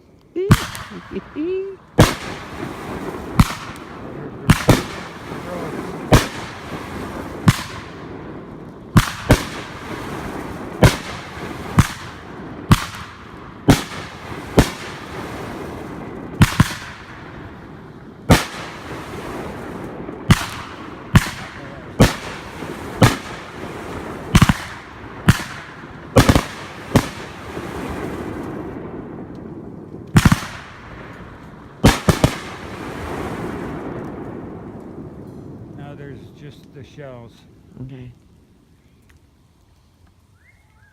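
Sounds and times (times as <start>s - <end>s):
steady hiss: 0.0s - 40.9s
fireworks banging: 0.3s - 38.1s.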